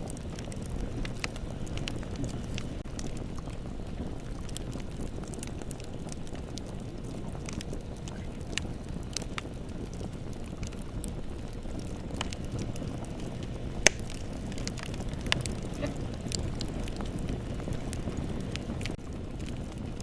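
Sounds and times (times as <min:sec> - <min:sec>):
bonfire rumbling and crackling: 0:00.0 - 0:20.0.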